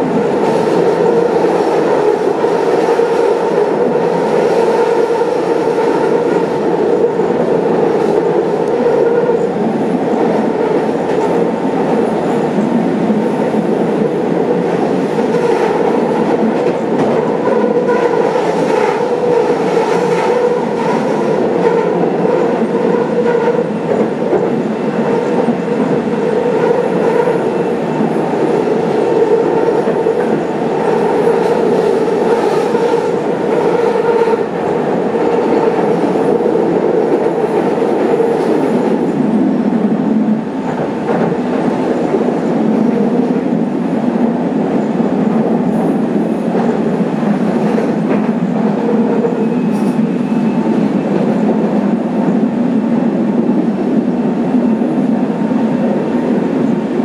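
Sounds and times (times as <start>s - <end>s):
tram wheels on rails: 0.0s - 57.0s.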